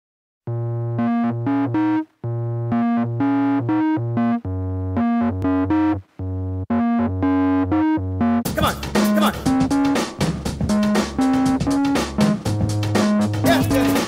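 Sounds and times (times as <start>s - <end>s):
electronic keyboard melody: 0.5s - 14.0s
low bass notes: 0.5s - 14.0s.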